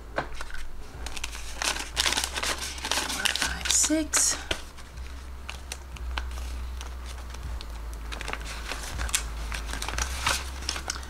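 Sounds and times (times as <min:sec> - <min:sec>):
steady low hum: 0:00.0 - 0:11.0
paper bills rustling: 0:00.3 - 0:11.0.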